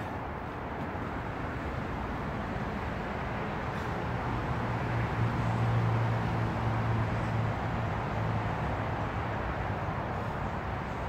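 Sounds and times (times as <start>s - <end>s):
distant vehicle passing: 0.0s - 11.0s
traffic noise: 0.0s - 11.0s.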